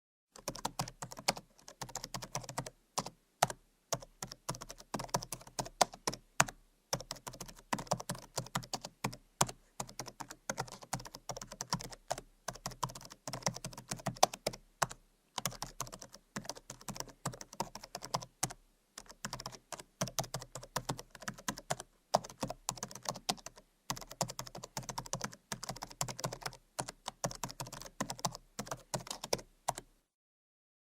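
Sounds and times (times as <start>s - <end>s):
typing on laptop keyboard: 0.4s - 29.9s.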